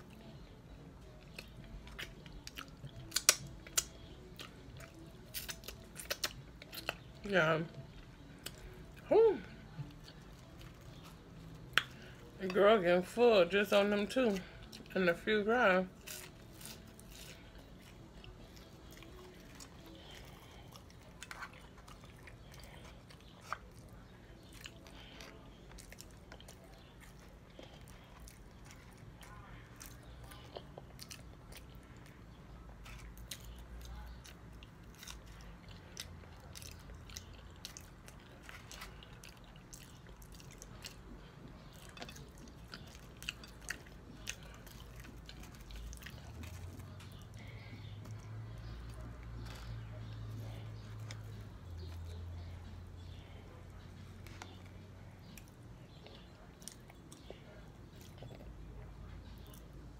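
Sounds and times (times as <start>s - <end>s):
person chewing crunchy food: 0.0s - 7.2s, 7.8s - 12.6s, 14.3s - 59.9s.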